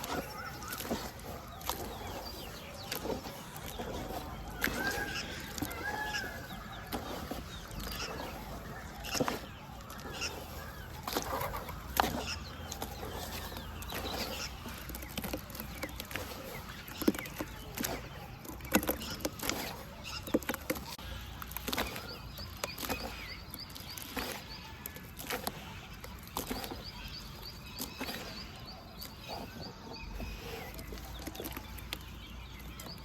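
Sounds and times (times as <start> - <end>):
dirt crumbling into water: 0.0 - 33.0.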